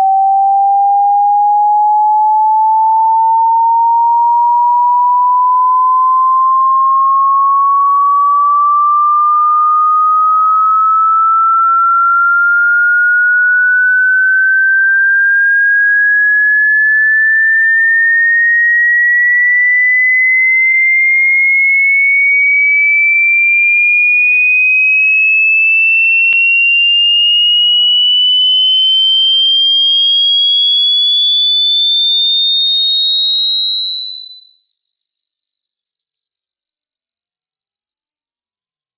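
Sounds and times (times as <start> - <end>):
rising pure sine tone: 0.0 - 38.9.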